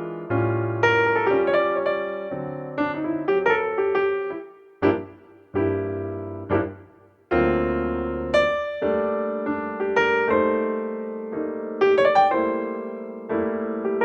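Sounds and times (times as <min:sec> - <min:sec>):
piano chords and notes: 0:00.0 - 0:14.0.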